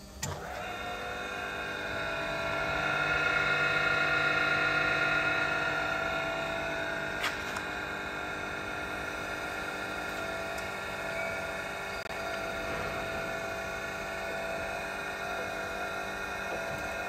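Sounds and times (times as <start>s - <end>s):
grinder motor whine: 0.0s - 17.0s.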